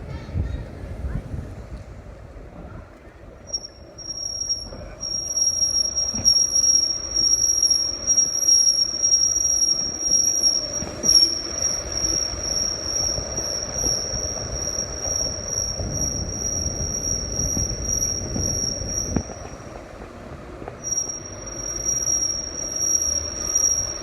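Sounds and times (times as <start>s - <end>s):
low vehicle rumble: 0.0s - 24.0s
high-pitched squeal: 3.5s - 19.8s, 20.8s - 24.0s.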